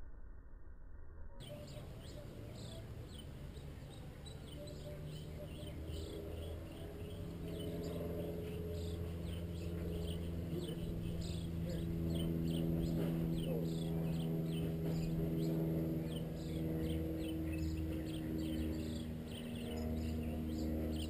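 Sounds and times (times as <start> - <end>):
rapid high-pitched chirping: 1.4 - 21.0.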